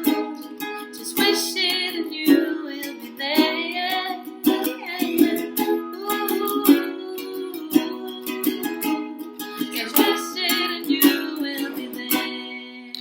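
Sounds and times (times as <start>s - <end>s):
strummed small stringed instrument: 0.0s - 13.0s
woman singing long notes: 1.0s - 8.9s, 9.7s - 13.0s.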